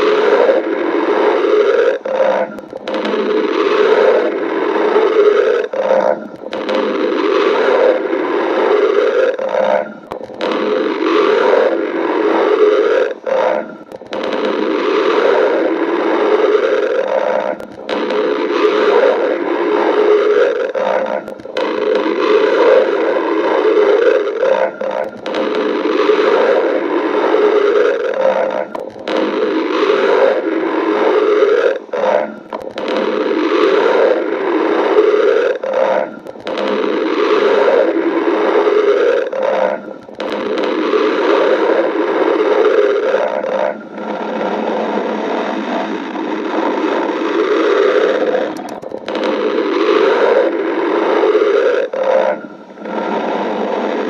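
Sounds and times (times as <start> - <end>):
stomach growling: 0.0 - 54.0.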